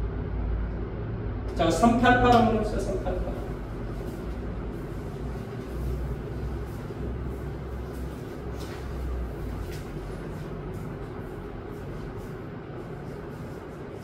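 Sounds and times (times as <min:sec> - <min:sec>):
low room hum and rumble: 0:00.0 - 0:14.0.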